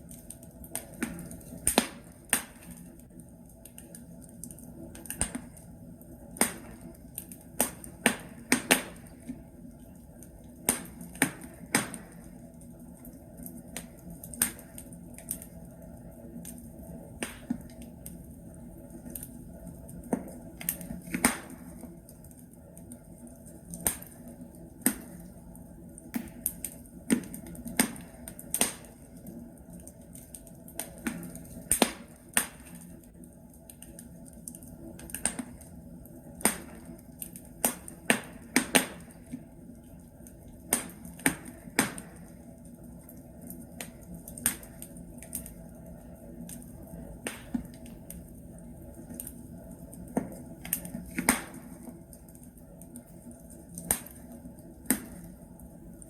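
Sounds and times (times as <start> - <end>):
logs crackling in fireplace: 0.0 - 56.0
low steady fire hiss: 0.0 - 56.0.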